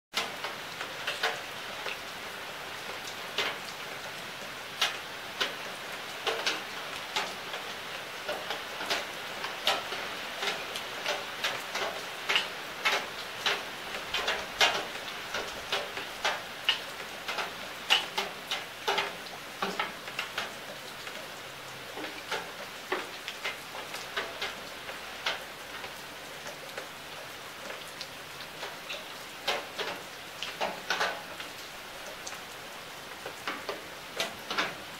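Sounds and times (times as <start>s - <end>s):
rain drops hitting close by: 0.1s - 34.9s.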